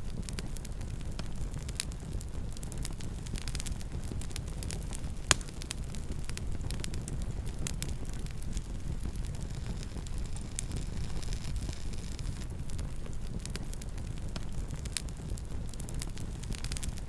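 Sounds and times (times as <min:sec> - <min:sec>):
campfire burning and crackling: 0:00.0 - 0:17.0.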